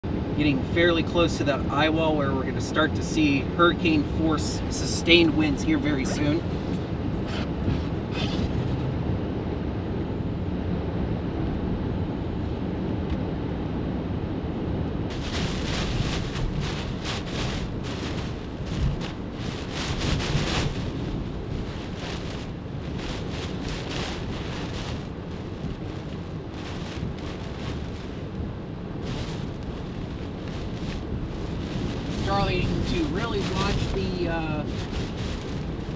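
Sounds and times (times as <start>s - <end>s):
gusts of wind and rain: 0.0s - 35.9s
hurricane wind rumble: 0.0s - 35.9s.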